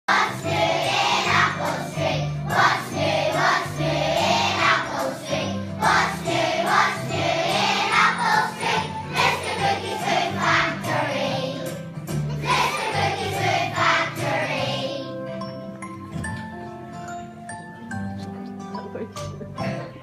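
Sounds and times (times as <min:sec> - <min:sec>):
instrumental accompaniment: 0:00.1 - 0:20.0.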